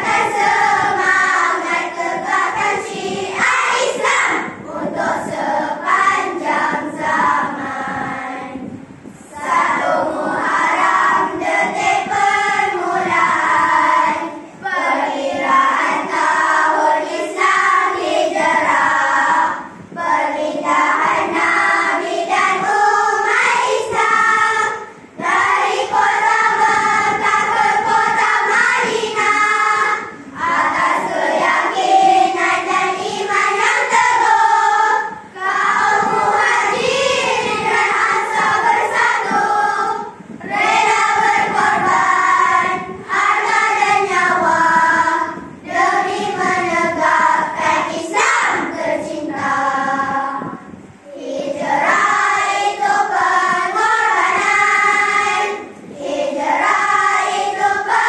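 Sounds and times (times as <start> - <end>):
children singing together: 0.0 - 58.0.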